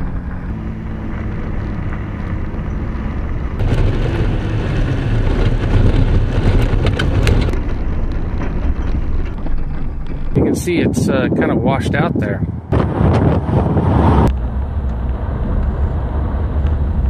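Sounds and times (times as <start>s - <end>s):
gravel crackling under tyres: 0.0s - 10.8s, 12.3s - 17.0s
engine and tyre rumble: 0.0s - 11.5s, 12.1s - 17.0s.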